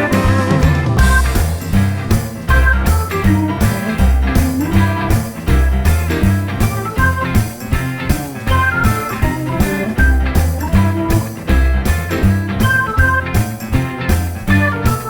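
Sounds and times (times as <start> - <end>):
blues-rock band music: 0.0 - 15.0.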